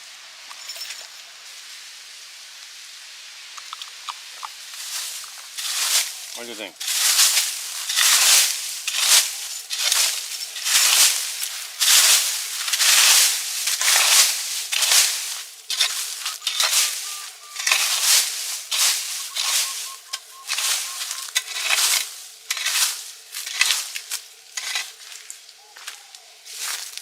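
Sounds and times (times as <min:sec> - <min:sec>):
dry crunching: 0:03.6 - 0:27.0.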